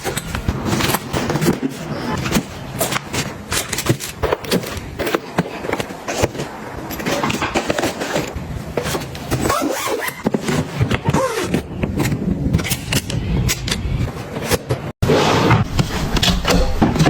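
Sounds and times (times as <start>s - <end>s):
plastic containers clicking and crinkling: 0.0s - 14.9s.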